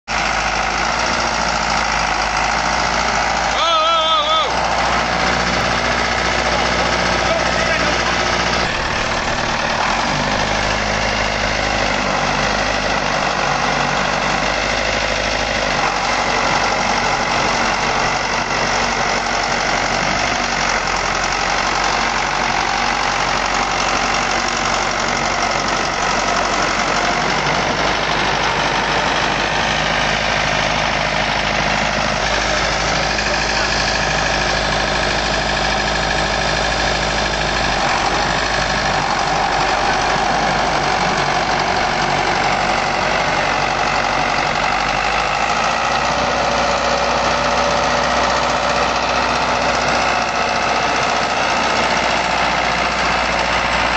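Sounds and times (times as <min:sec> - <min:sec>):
tractor engine running: 0:00.1 - 0:53.9.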